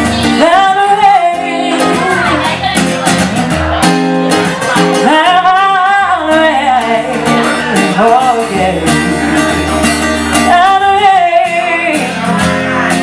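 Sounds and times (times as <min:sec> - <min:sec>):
woman singing into a microphone: 0:00.0 - 0:02.9, 0:04.4 - 0:13.0
acoustic guitar strummed: 0:00.0 - 0:13.0.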